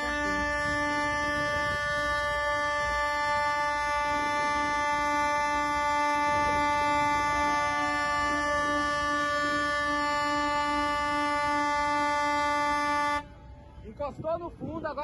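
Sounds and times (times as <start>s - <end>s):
ship's horn blast: 0.0s - 13.8s
low rumble of wind and water: 0.0s - 15.0s.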